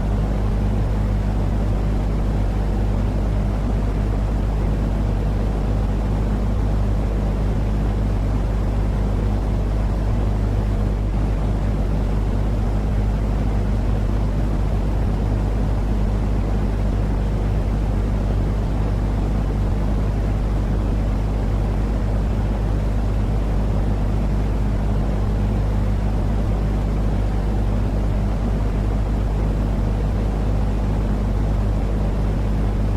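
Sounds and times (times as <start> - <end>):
constant low hum: 0.0 - 32.9
deep white noise: 0.0 - 32.9.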